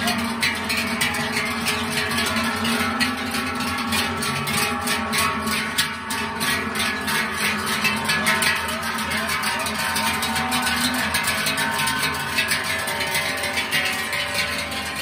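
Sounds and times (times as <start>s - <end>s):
cowbells clanging: 0.0s - 15.0s.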